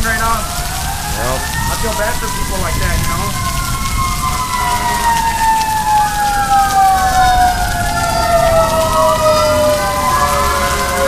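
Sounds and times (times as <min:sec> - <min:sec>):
fire truck sirens wailing: 0:00.0 - 0:11.0
heavy rain: 0:00.0 - 0:11.0.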